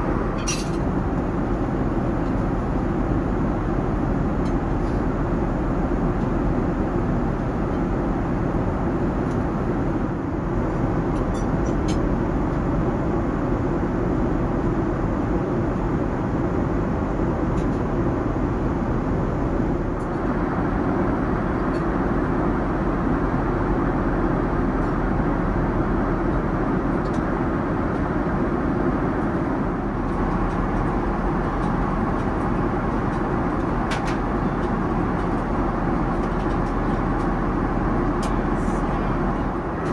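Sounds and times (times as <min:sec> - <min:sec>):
jet cabin rumble and hiss: 0:00.0 - 0:39.9.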